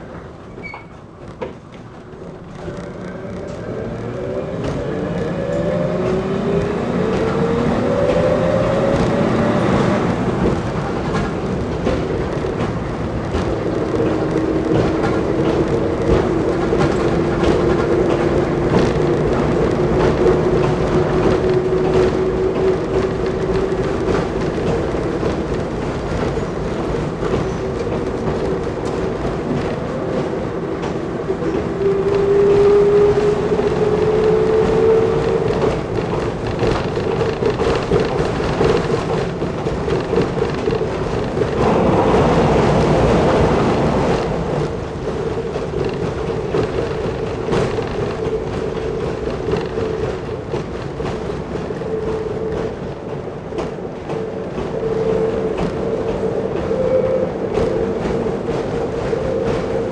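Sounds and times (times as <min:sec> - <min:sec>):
rail joints clicking: 0:00.0 - 0:59.9
rushing noise: 0:02.9 - 0:59.9.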